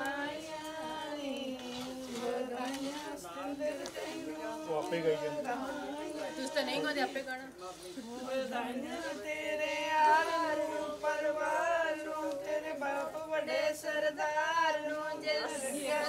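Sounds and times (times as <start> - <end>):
group singing folk song: 0.0 - 16.0.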